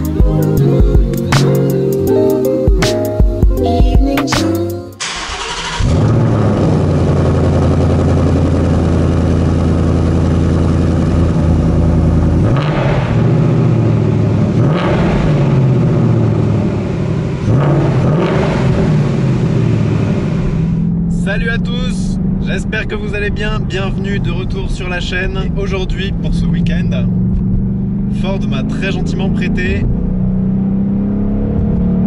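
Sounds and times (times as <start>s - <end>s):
car engine starting and idling: 0.0s - 32.0s
car engine revving: 4.4s - 32.0s.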